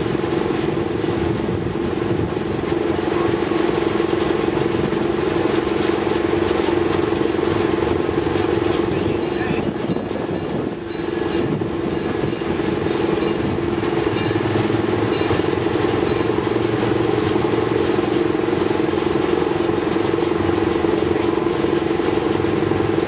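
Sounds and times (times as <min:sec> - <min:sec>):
train motor humming: 0:00.0 - 0:23.0.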